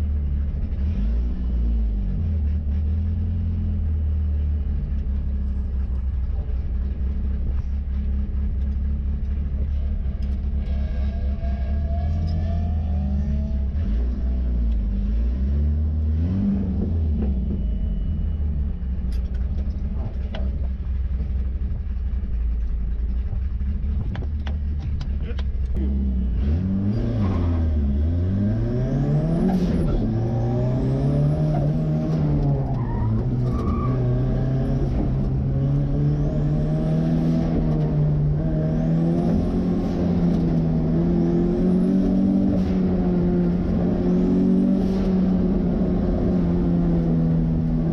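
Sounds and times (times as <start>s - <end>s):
car engine running: 0.0s - 11.7s, 15.9s - 47.9s.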